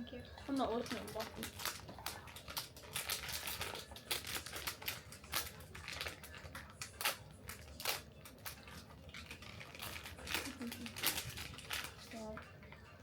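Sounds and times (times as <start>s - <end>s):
packaging wrapping crinkling: 0.3s - 12.9s.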